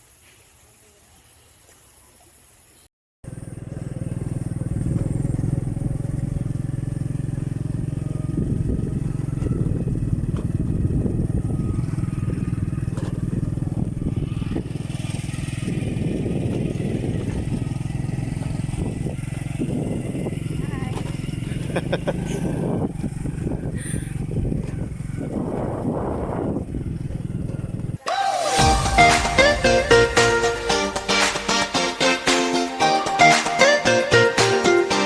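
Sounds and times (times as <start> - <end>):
motorcycle engine rattly drone: 3.2 - 35.0.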